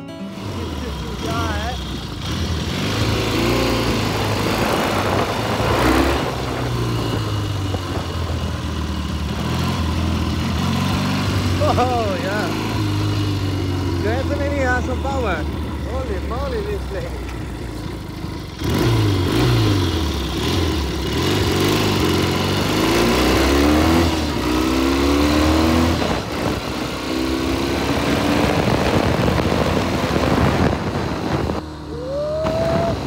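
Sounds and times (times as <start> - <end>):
motorcycle engine revving: 0.1 - 33.0.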